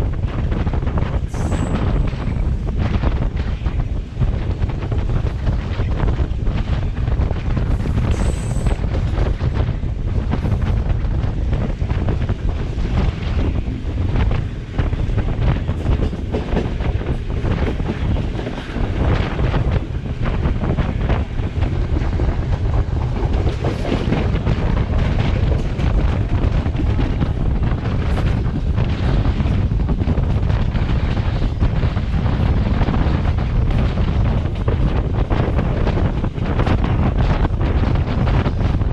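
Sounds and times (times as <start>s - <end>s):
train rumbling along track: 0.0s - 38.9s
wind buffeting microphone: 0.0s - 38.9s.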